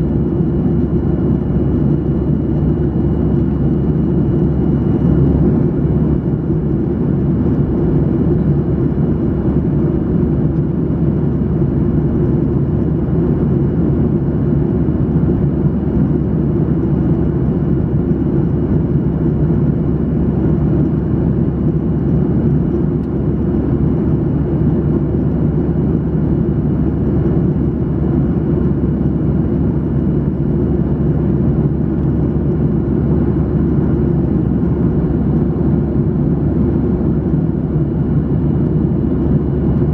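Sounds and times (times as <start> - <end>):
airplane cabin airflow and engine noise: 0.0 - 39.9.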